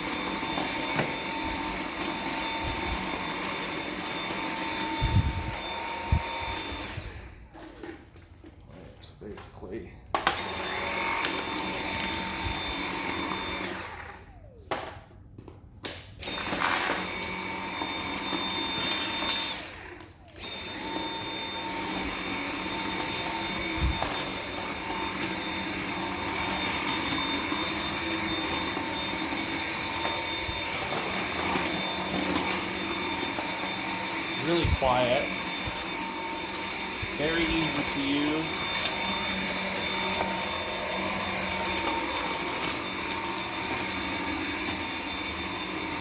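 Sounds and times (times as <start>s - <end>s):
cordless vacuum motor whine: 0.0s - 8.3s, 10.2s - 15.5s, 16.1s - 46.0s.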